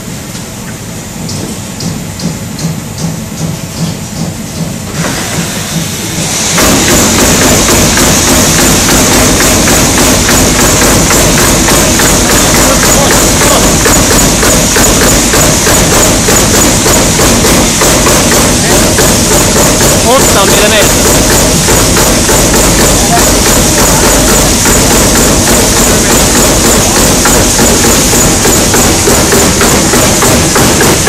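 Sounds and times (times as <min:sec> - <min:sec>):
punching machine strokes: 0:01.2 - 0:31.0.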